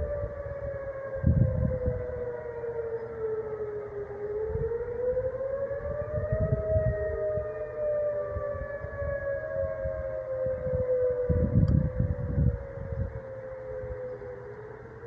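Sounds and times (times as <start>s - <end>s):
two-tone warning siren wail: 0.0s - 15.0s.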